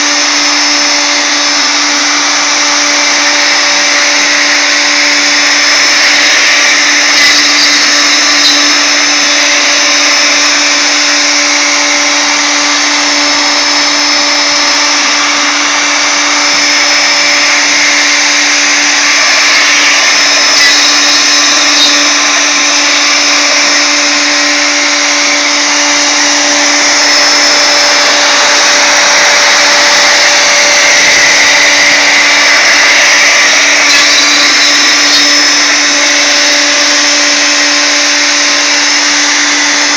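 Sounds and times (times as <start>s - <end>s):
router bit cutting hiss: 0.0s - 39.9s
router motor whine: 0.0s - 39.9s.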